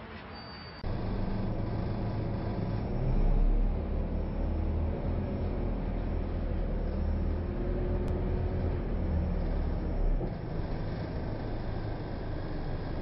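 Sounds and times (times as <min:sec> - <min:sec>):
bus engine and road noise drone: 0:00.0 - 0:13.0.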